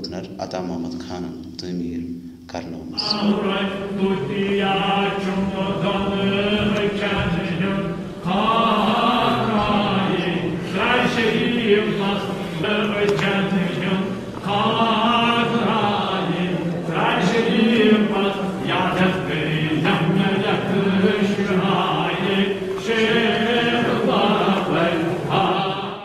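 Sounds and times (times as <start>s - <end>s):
group chanting devotional recitation: 2.7s - 26.0s.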